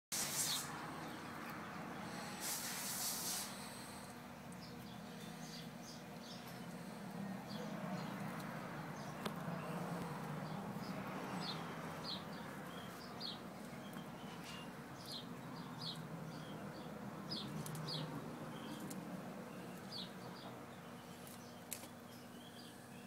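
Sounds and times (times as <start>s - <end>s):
steady low hum: 0.2s - 23.0s
small bird chirping: 4.5s - 23.0s.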